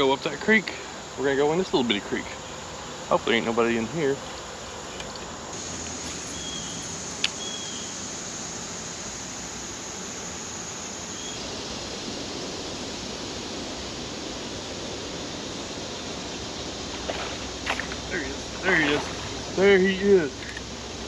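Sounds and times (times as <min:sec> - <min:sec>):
high insect drone: 0:00.0 - 0:21.0
steady hiss: 0:00.0 - 0:21.0.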